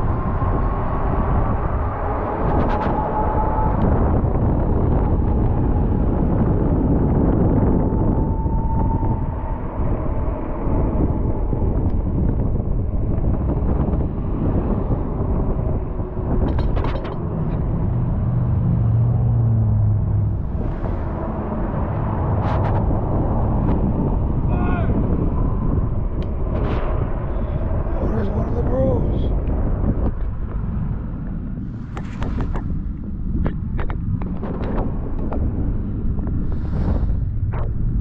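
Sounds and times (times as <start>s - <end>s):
low vehicle engine hum: 0.0s - 38.0s
passing motor vehicles: 0.0s - 38.0s
wind and road rumble: 0.0s - 38.0s.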